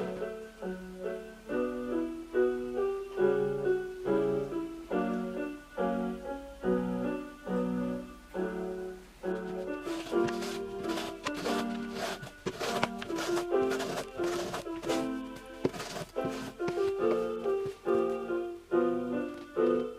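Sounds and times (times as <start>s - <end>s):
piano music: 0.0s - 19.9s.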